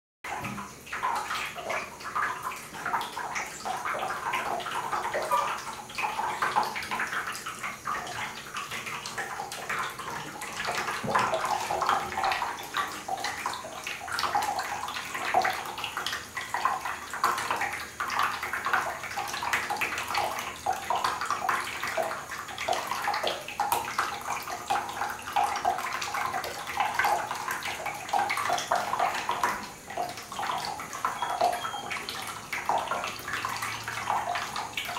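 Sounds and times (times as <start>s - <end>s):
water stream splashing into tub: 0.2s - 34.9s.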